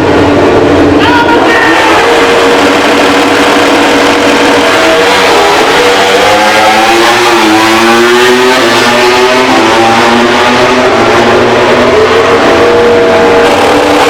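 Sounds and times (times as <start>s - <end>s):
racing motorcycle engine revving: 0.0s - 14.0s.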